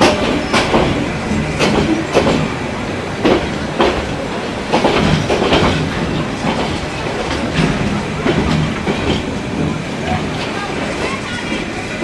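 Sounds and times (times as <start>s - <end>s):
railway carriage rumble: 0.0s - 12.0s.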